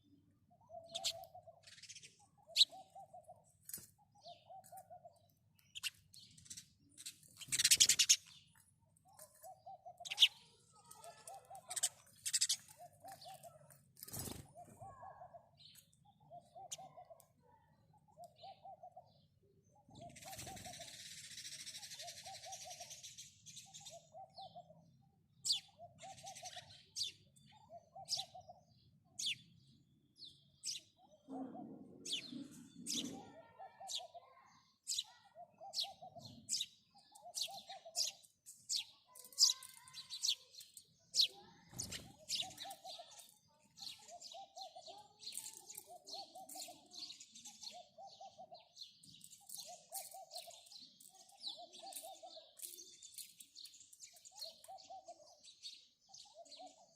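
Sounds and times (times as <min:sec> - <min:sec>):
sparrows chirping: 0:00.0 - 0:56.9.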